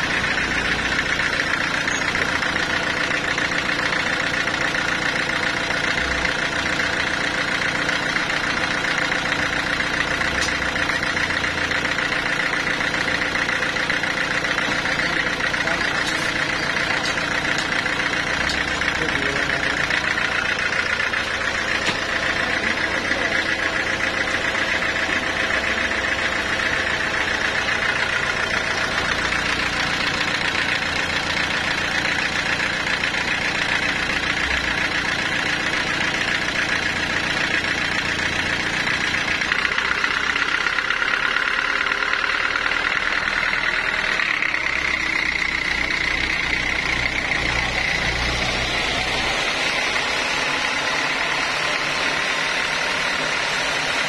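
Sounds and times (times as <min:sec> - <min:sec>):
band saw cutting log: 0:08.4 - 0:41.3, 0:42.4 - 0:54.0.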